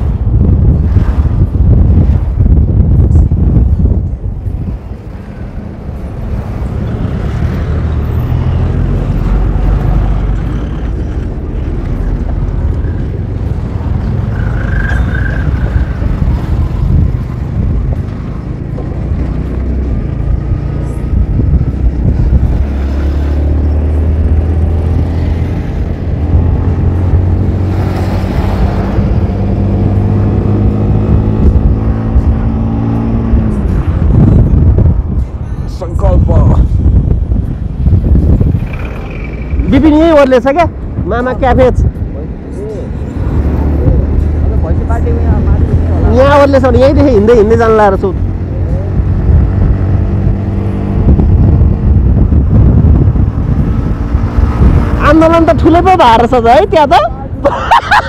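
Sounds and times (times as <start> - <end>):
wind buffeting microphone: 0.0 - 46.4, 48.1 - 58.0.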